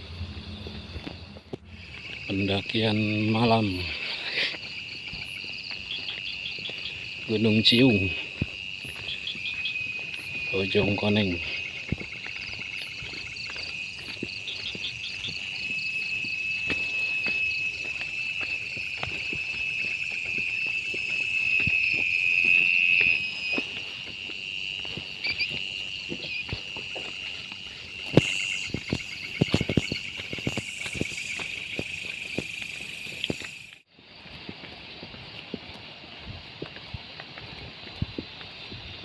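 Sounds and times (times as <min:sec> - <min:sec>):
night insects trilling: 0:00.0 - 0:39.0.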